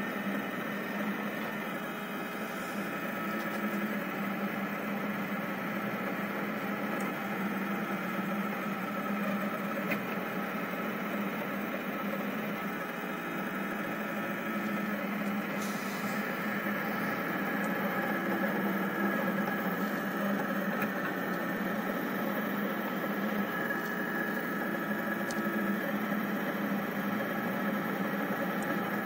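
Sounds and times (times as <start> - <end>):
printer motors and fans humming: 0.0 - 29.0.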